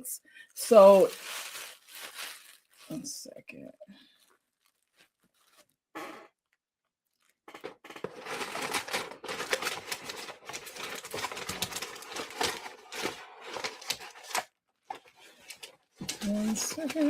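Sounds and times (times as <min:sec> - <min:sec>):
packaging rustling: 0:00.7 - 0:03.1, 0:04.1 - 0:05.8, 0:07.1 - 0:17.0.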